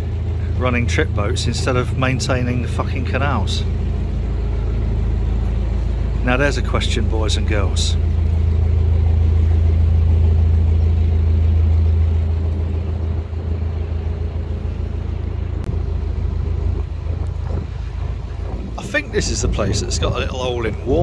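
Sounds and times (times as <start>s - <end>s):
boat diesel engine humming: 0.0s - 21.0s.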